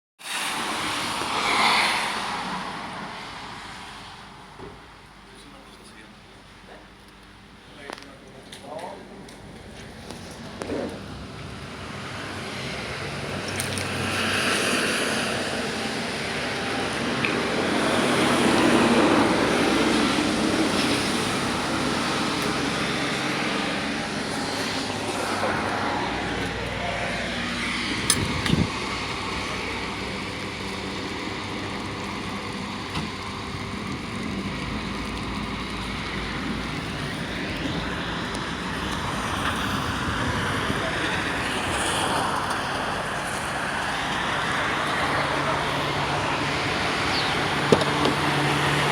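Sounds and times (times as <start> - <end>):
storm wind and rain: 0.2 - 5.0, 9.2 - 48.9.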